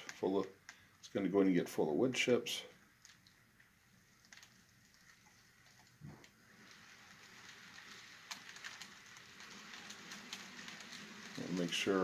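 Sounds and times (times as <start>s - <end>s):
model train rolling over track: 0.0s - 12.0s.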